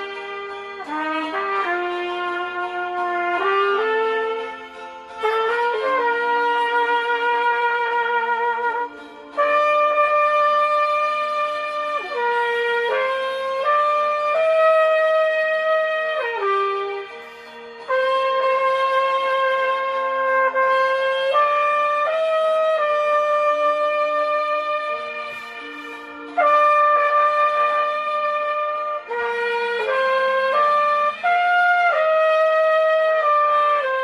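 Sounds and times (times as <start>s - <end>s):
trumpet playing slow melody: 0.0s - 34.0s.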